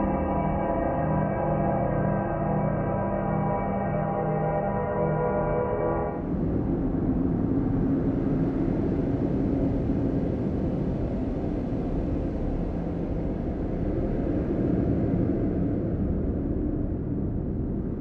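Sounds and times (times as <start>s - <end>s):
dark ambient drone: 0.0s - 18.0s.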